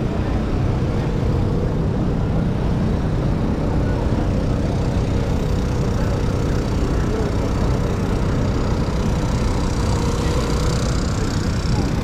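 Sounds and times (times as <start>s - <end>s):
traffic engines humming: 0.0s - 12.0s.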